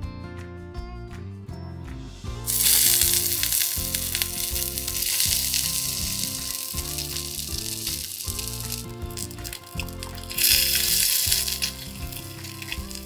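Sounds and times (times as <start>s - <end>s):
fish sizzling in hot oil: 2.5s - 13.0s.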